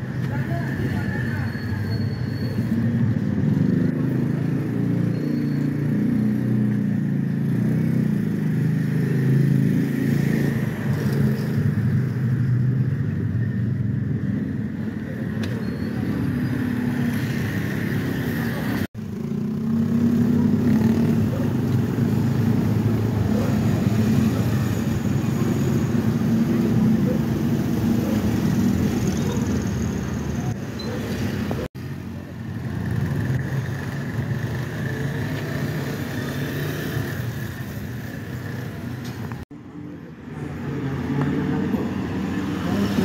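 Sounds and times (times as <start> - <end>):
road noise: 0.0 - 43.0.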